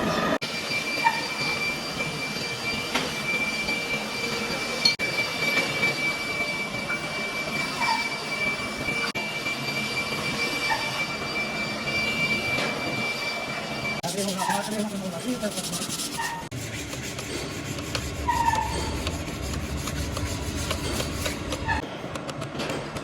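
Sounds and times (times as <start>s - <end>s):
workshop machine whining: 0.0s - 23.0s.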